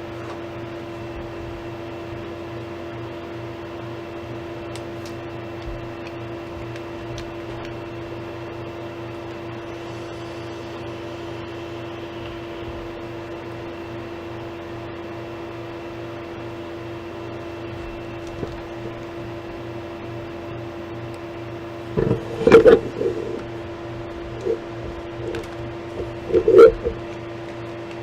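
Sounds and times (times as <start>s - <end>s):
steady machine hum with tone: 0.0s - 28.0s.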